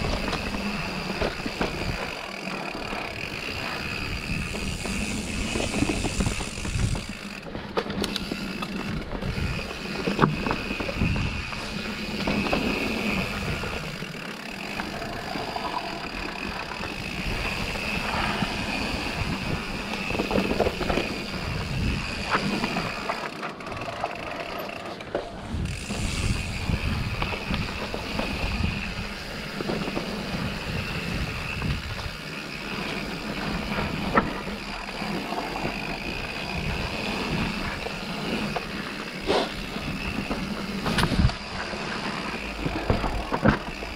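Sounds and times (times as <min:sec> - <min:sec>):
bike chain and suspension rattling: 0:00.0 - 0:43.9
bike tyres rolling over dirt: 0:00.0 - 0:43.9
wheels knocking on roots: 0:00.0 - 0:43.9.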